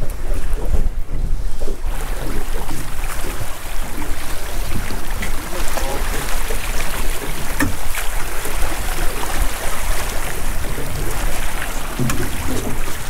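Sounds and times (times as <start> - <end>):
water splashing against boat: 0.0 - 13.0
wind rumbling on microphone: 0.0 - 13.0.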